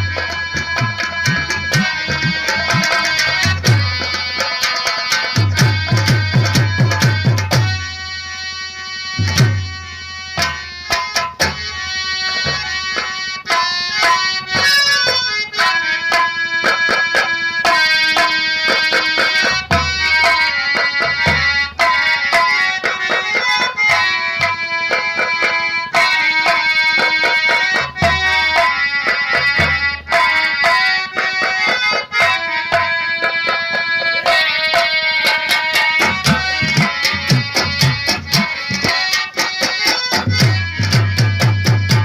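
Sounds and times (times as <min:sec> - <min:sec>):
hand drums: 0:00.0 - 0:42.0
harmonium melody: 0:00.0 - 0:42.0.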